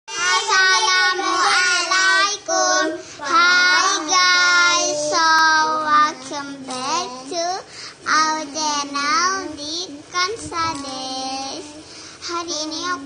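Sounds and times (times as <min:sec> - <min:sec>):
child singing: 0:00.1 - 0:13.0.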